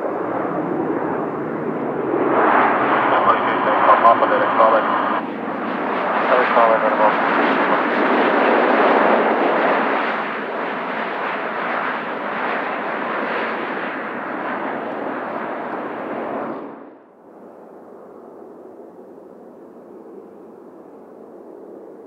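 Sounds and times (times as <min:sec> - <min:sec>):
turboprop engines and propellers: 0:00.0 - 0:22.0.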